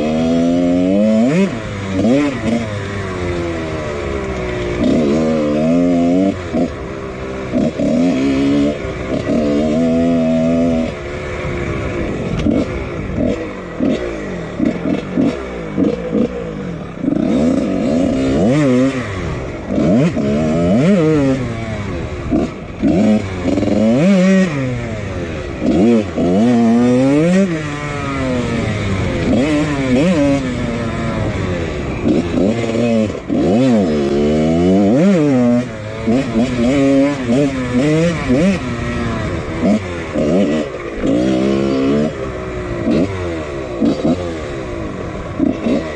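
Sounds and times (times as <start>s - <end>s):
two-stroke motorcycle engine revving: 0.0s - 45.9s.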